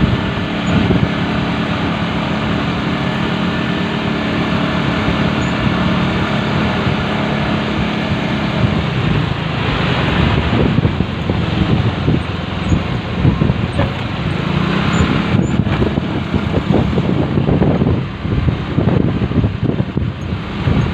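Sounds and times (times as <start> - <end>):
motorcycle running: 0.0 - 20.9
road and wind noise: 0.0 - 20.9.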